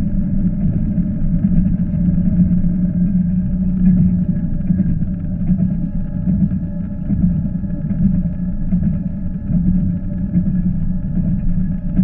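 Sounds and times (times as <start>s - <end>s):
faint steady hum: 0.0s - 12.0s
train rumble from inside carriage: 0.0s - 12.0s.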